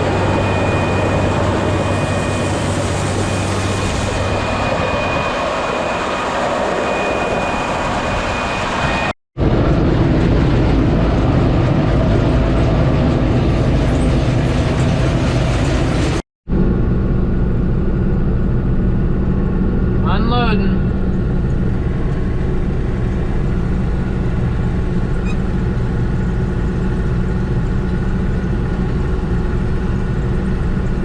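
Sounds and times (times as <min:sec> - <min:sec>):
combine engine and machinery din: 0:00.0 - 0:31.0.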